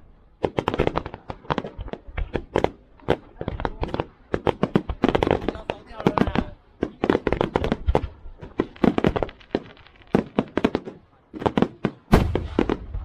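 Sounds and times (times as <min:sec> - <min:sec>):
fireworks bangs and cracks: 0:00.4 - 0:13.0.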